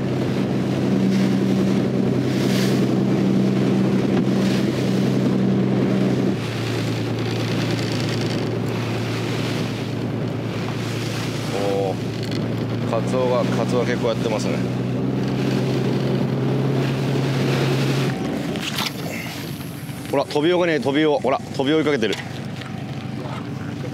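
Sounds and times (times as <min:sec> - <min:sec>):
wind on microphone: 0:00.0 - 0:20.8
boat engine humming: 0:00.0 - 0:23.9
sea wash: 0:00.0 - 0:23.9.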